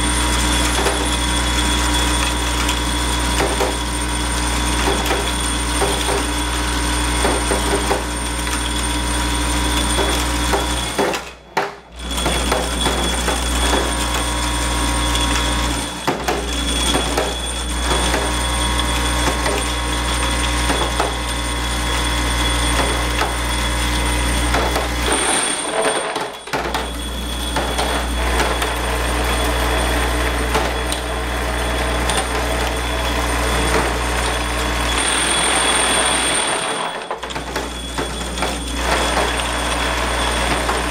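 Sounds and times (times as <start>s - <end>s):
vibratory feeder humming: 0.0s - 11.1s, 11.9s - 40.9s.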